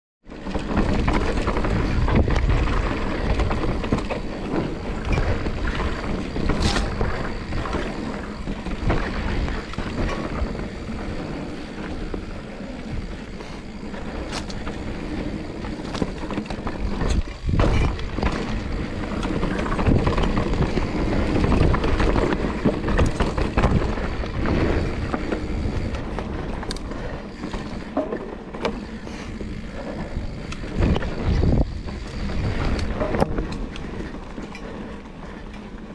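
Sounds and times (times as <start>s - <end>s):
bike rattling: 0.2s - 35.9s
tyres rolling over dirt: 0.3s - 35.9s
wind on microphone: 0.7s - 27.9s, 28.7s - 34.7s.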